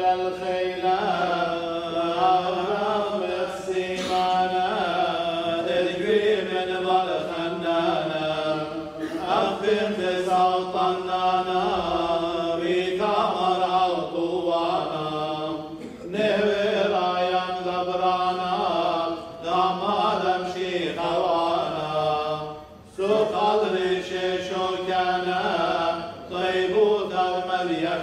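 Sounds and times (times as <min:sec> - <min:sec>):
voices chanting prayers: 0:00.0 - 0:28.0.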